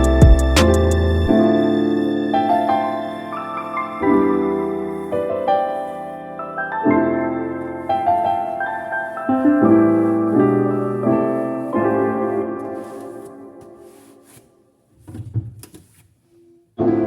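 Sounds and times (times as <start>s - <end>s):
slow gentle piano music: 0.0s - 14.8s, 16.7s - 17.0s.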